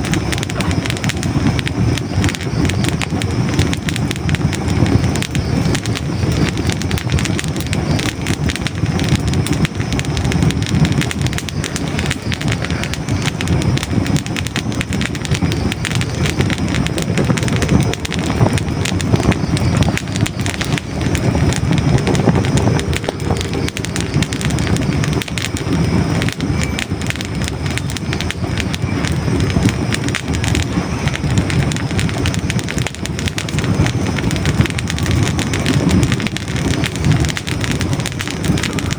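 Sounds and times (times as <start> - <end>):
logs crackling in fireplace: 0.0 - 38.9
low rumble of flames: 0.0 - 38.9.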